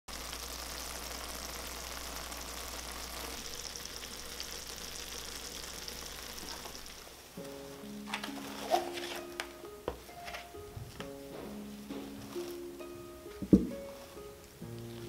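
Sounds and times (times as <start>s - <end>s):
food sizzling in a hot pan: 0.1s - 9.4s, 11.6s - 15.0s.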